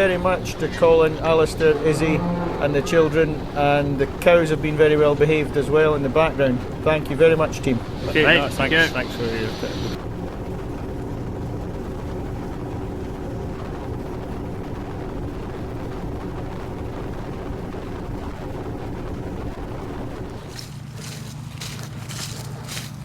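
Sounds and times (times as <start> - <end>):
combine harvester engine drone: 0.0 - 23.0.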